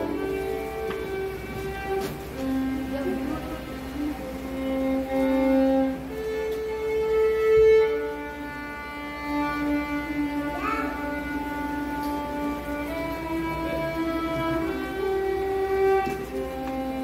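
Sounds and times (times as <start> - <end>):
violins playing slow melody: 0.0 - 17.0.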